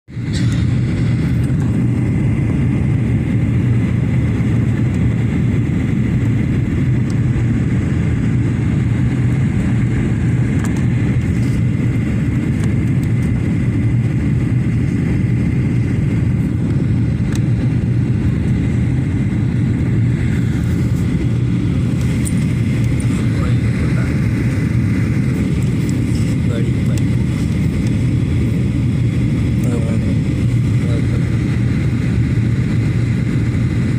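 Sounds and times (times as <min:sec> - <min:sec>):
airliner cabin low roar: 0:00.1 - 0:33.9
faint high engine whine: 0:00.1 - 0:33.9.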